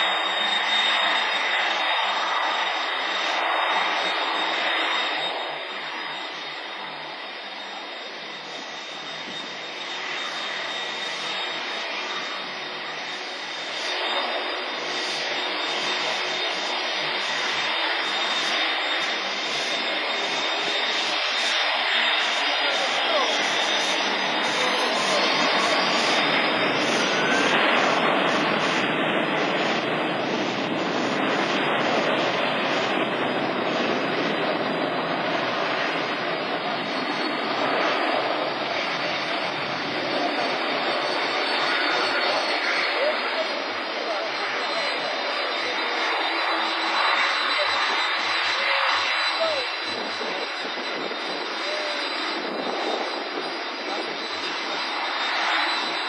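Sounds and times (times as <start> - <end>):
jet engines taxiing: 0.0 - 56.0.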